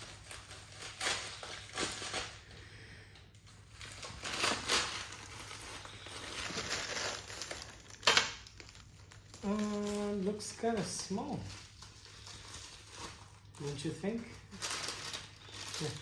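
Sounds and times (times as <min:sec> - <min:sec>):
crinkling and rustling: 0:00.0 - 0:02.6, 0:03.2 - 0:16.0.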